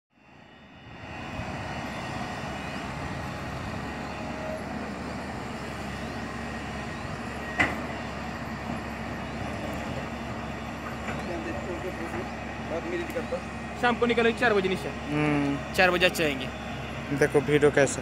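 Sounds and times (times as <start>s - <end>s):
distant diesel engine running: 0.3s - 18.0s.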